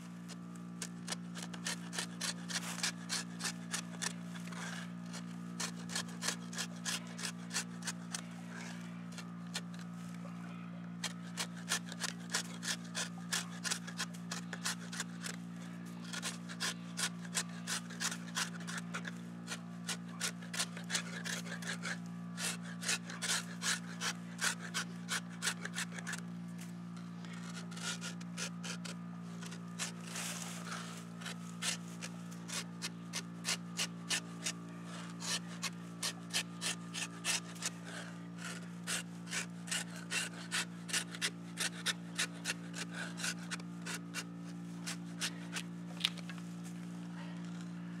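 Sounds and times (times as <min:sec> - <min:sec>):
steady low hum: 0:00.0 - 0:48.0
knife scraping wood: 0:00.2 - 0:10.3, 0:11.0 - 0:46.8.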